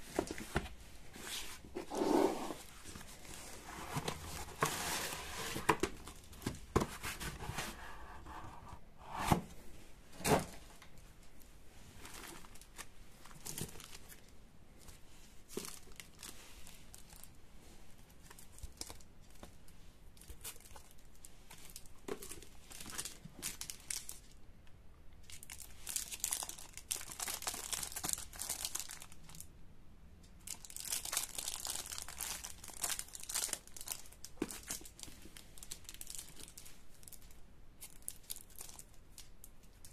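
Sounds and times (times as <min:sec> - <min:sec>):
plastic and cardboard crinkling: 0:00.0 - 0:08.6, 0:11.9 - 0:17.4, 0:18.1 - 0:24.4, 0:25.3 - 0:29.4, 0:30.5 - 0:39.9.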